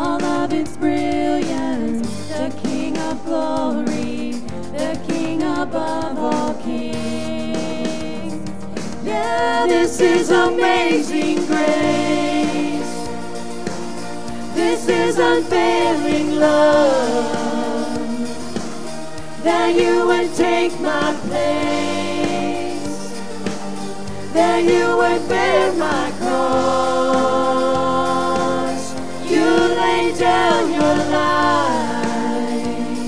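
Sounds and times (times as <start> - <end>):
keyboard and guitars: 0.0 - 33.0
voices singing together: 0.0 - 33.0.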